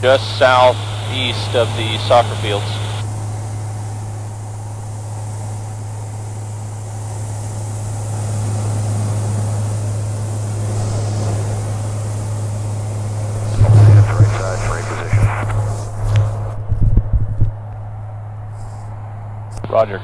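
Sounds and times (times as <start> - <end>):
air noise: 0.0 - 19.8
light aircraft engine drone: 0.0 - 20.0.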